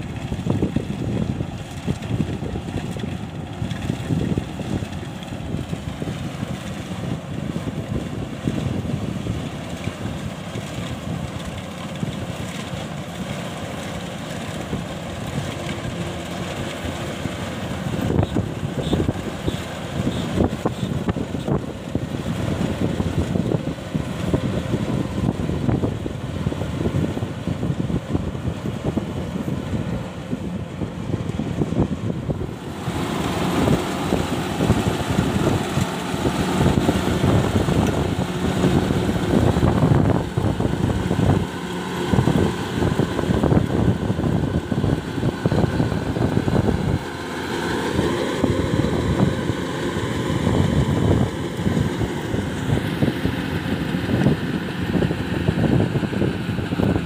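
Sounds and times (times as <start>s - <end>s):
wind buffeting microphone: 0.0s - 13.6s, 14.2s - 57.0s
combine harvester engine and threshing: 0.0s - 57.0s.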